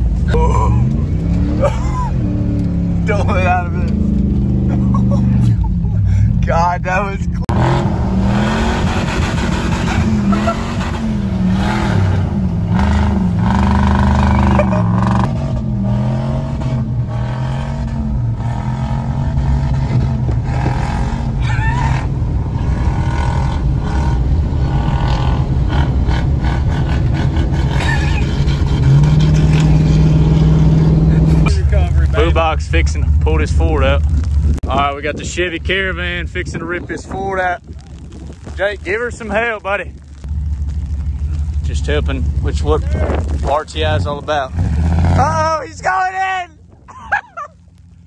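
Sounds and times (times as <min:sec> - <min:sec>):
truck engine revving: 0:00.0 - 0:46.3.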